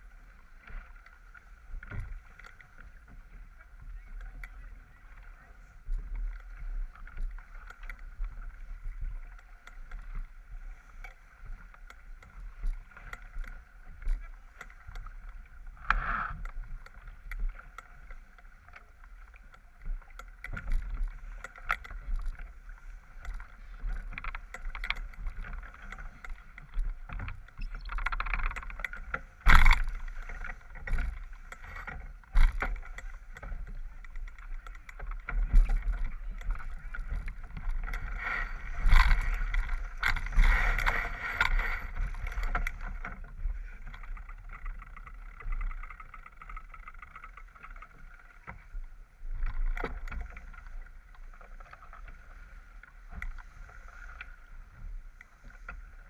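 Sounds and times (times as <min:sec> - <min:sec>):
knocks and clatter from boat: 0:00.0 - 0:56.0
water rushing along boat hull: 0:00.0 - 0:56.0
wind rumble on microphone: 0:00.0 - 0:56.0.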